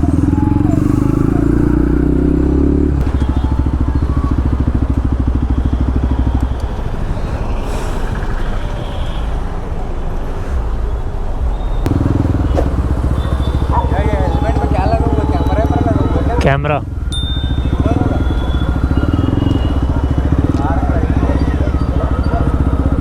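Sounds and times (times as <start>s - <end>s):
motorcycle engine running loudly: 0.0s - 9.1s, 11.9s - 23.0s.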